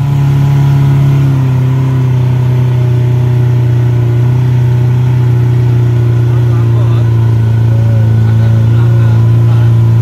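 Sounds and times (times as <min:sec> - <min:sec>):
jeep engine droning: 0:00.0 - 0:10.0.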